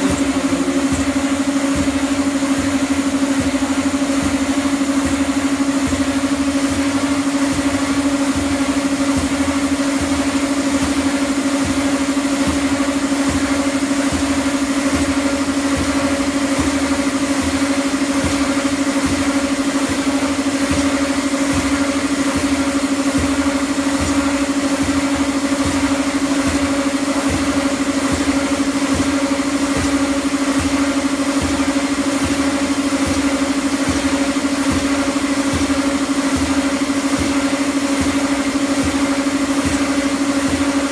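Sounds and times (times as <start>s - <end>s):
cleaning machine motor hum: 0.0s - 40.9s.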